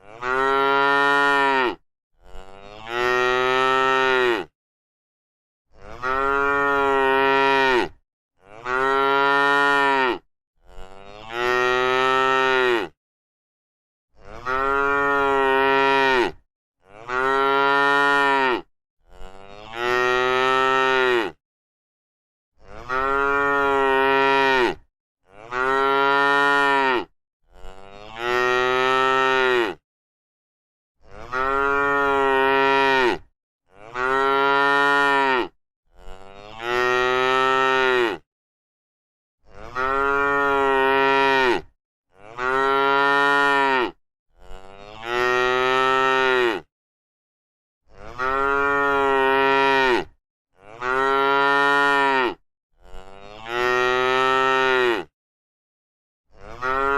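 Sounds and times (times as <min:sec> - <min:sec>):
cow mooing: 0:00.0 - 0:04.5, 0:05.8 - 0:13.0, 0:14.2 - 0:21.4, 0:22.6 - 0:29.8, 0:31.1 - 0:38.2, 0:39.5 - 0:46.7, 0:48.0 - 0:55.1, 0:56.4 - 0:56.9.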